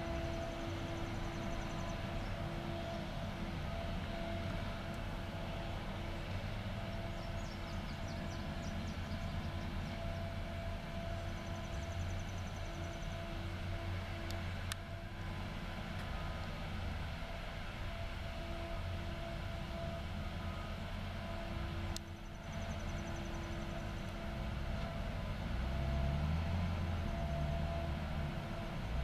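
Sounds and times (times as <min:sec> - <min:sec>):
distant machine engine drone: 0:00.0 - 0:29.0.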